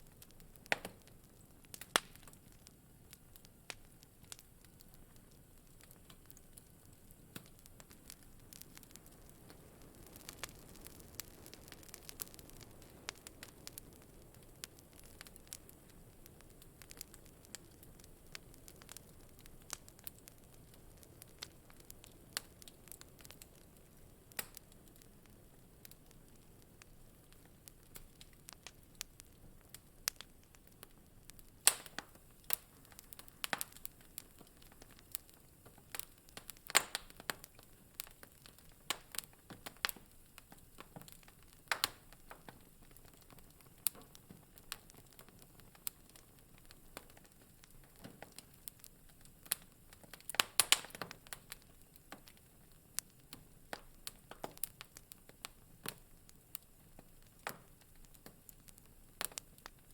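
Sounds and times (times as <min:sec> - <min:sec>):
faint hiss: 0:00.0 - 0:59.9
wood fire crackling: 0:00.0 - 0:59.9.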